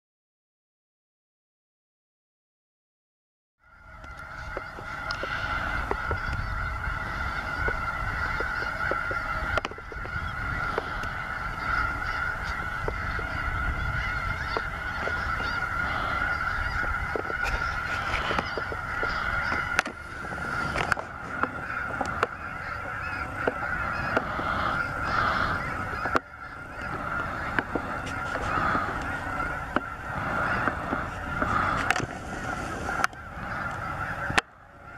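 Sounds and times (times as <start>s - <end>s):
flock of geese honking: 3.6s - 34.9s.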